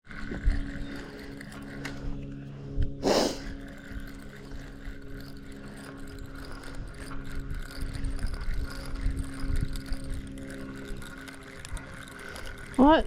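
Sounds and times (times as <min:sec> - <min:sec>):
steady low hum: 0:00.0 - 0:13.0
fishing reel clicking: 0:00.1 - 0:02.4, 0:03.1 - 0:13.0.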